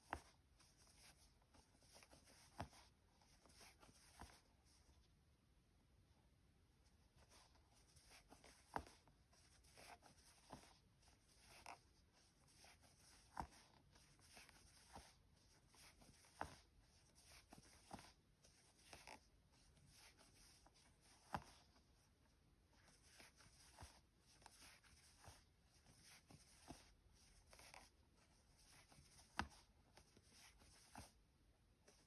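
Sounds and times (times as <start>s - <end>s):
crochet hook rustling yarn: 0.0s - 5.2s, 6.7s - 32.0s.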